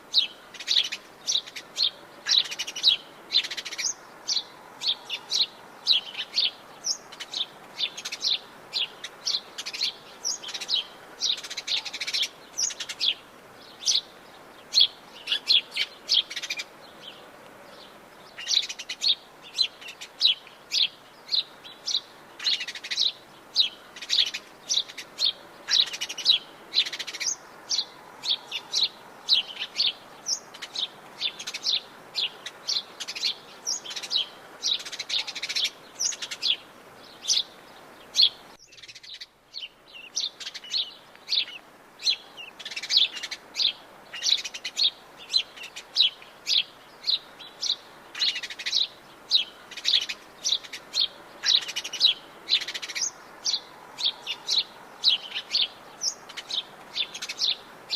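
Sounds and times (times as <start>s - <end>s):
faint background hiss: 0.0s - 57.9s
songbirds chirping: 0.0s - 57.9s.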